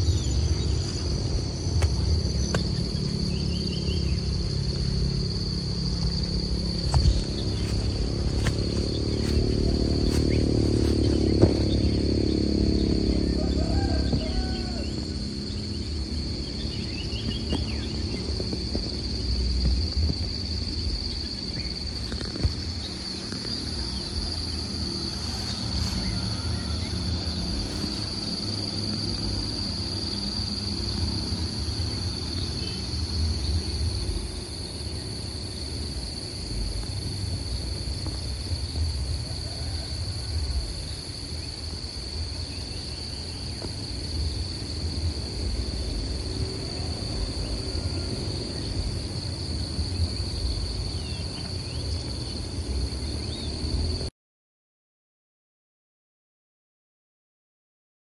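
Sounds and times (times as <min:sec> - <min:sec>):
low uneven rumble: 0:00.0 - 0:53.2
insects droning: 0:00.0 - 0:54.1.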